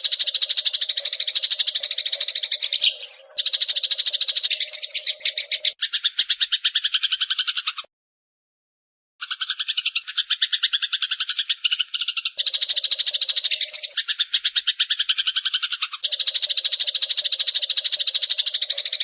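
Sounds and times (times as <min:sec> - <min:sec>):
sparrows chattering harsh chirps: 0:00.0 - 0:07.9, 0:09.2 - 0:19.0.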